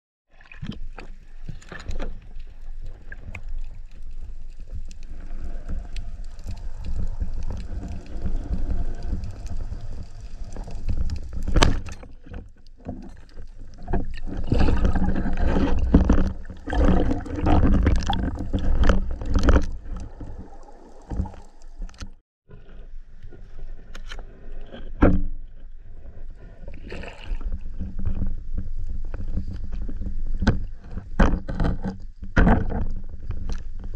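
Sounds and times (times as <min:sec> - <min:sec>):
underwater rumble of moving water: 0:00.3 - 0:33.9.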